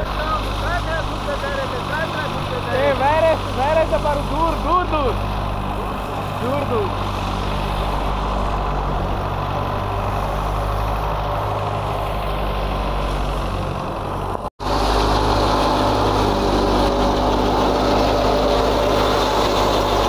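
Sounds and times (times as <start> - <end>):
thresher rushing hiss: 0.0 - 20.0
tractor engine droning: 0.0 - 20.0.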